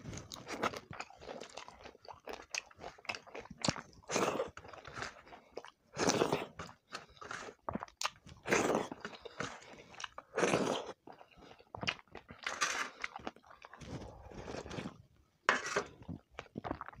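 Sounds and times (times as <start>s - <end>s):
person chewing food: 0.0s - 15.2s, 15.8s - 17.0s.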